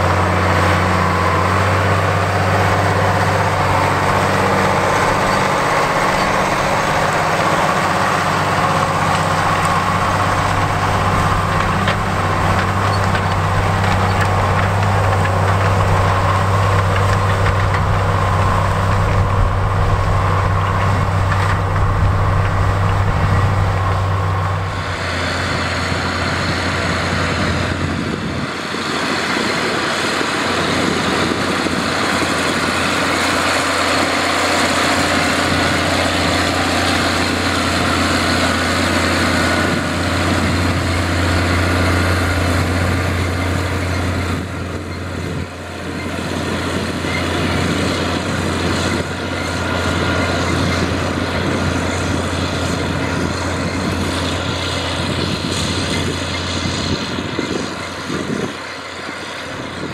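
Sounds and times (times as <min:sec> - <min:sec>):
tractor diesel engine under load: 0:00.0 - 0:59.9
tractor rattle: 0:00.0 - 0:59.9.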